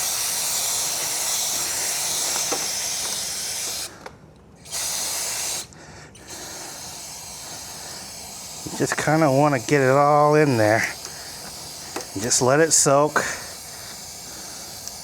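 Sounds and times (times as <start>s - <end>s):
aerosol spray hissing: 0.0s - 3.9s, 4.6s - 15.0s.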